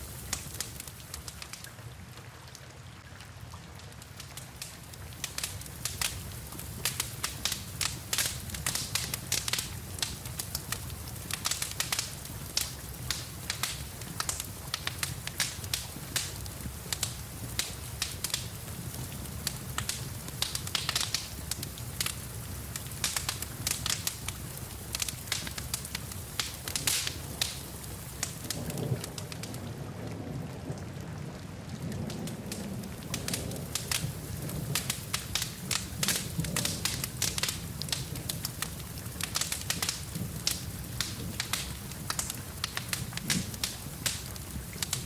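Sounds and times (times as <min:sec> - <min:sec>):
wood fire crackling and popping: 0:00.0 - 0:01.7, 0:04.0 - 0:29.7, 0:32.0 - 0:45.0
rain hissing: 0:00.0 - 0:02.0, 0:04.0 - 0:31.1, 0:31.8 - 0:45.0.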